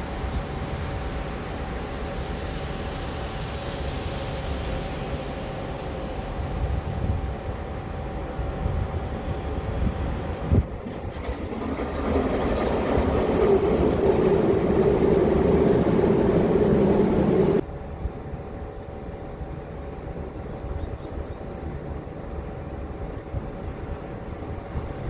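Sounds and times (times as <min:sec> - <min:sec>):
train passing: 0:00.0 - 0:20.8
steady background hum: 0:00.0 - 0:25.0.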